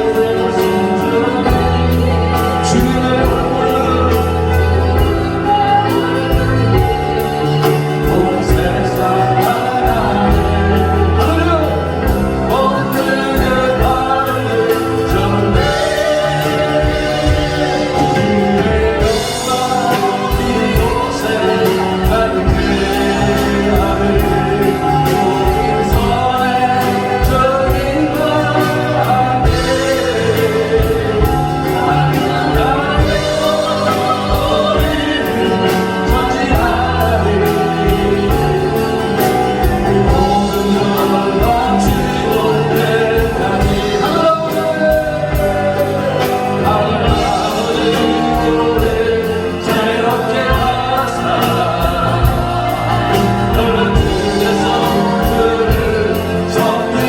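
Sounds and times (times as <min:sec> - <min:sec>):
band with steady beat: 0:00.0 - 0:57.0
group singing worship song: 0:00.0 - 0:57.0.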